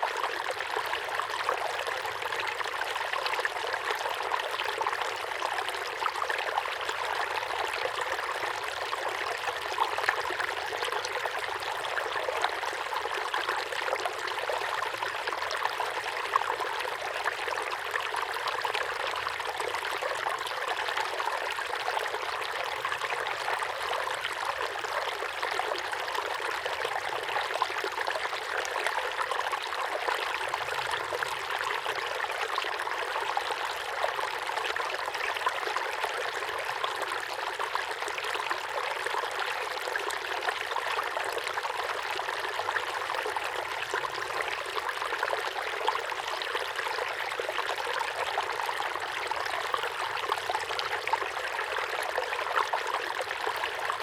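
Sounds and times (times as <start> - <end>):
small waterfall pouring into pond: 0.0 - 54.0.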